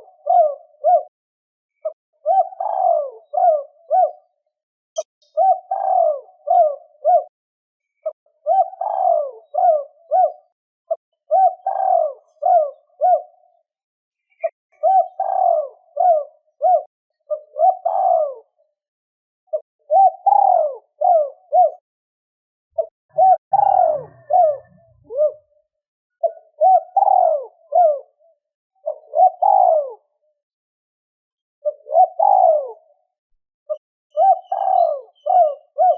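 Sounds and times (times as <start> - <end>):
dove cooing: 0.0 - 1.2, 1.8 - 4.4, 5.0 - 7.4, 8.0 - 13.6, 14.3 - 18.7, 19.5 - 21.8, 22.8 - 30.2, 31.6 - 33.1, 33.7 - 35.9.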